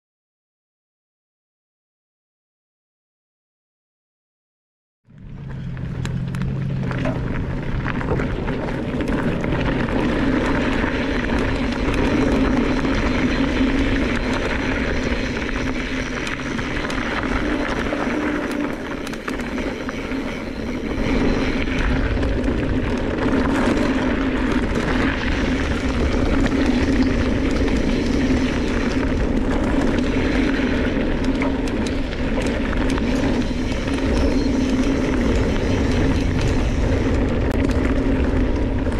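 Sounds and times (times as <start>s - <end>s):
steady humming buzz: 5.1s - 38.9s
tyres on loose dirt: 5.1s - 38.9s
wind rushing on camera: 5.1s - 38.9s
small rattles and ticks: 5.6s - 38.9s.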